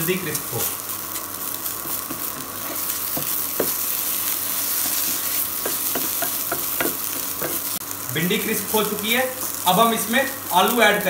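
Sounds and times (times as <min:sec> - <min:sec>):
okra sizzling in oil: 0:00.0 - 0:11.0.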